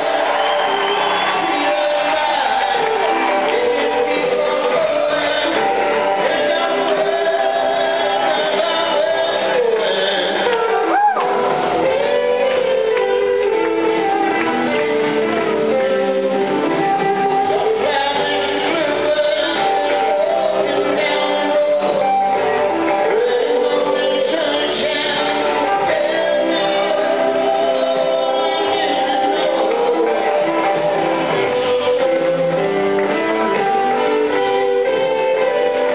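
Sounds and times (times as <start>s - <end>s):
man singing: 0.0s - 13.4s, 14.7s - 35.9s
bass guitar: 0.0s - 35.9s
electric guitars: 0.0s - 35.9s.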